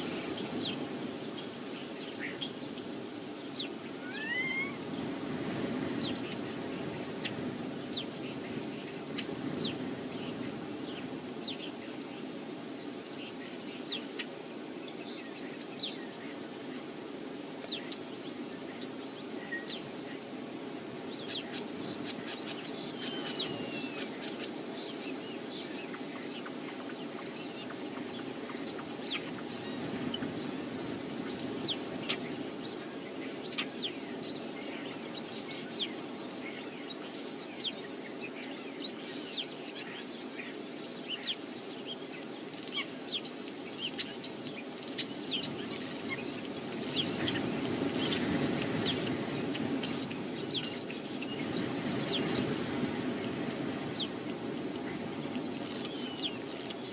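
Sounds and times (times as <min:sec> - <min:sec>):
low rush of wind: 0:00.0 - 0:56.9
small birds chirping: 0:00.0 - 0:56.9.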